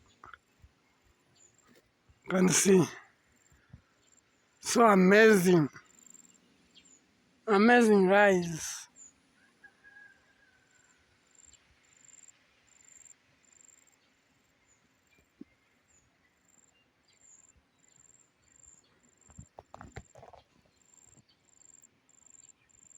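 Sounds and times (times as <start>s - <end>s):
cricket chirping faintly: 0.0s - 22.9s.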